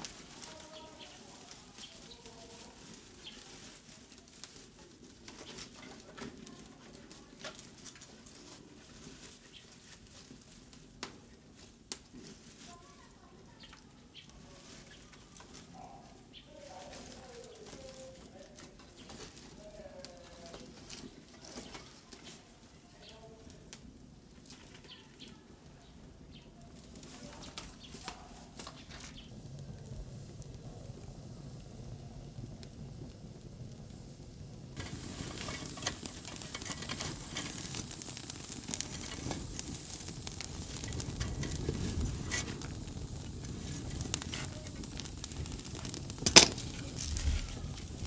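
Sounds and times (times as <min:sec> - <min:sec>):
stove fire crackling and sizzling: 0:00.0 - 0:48.0.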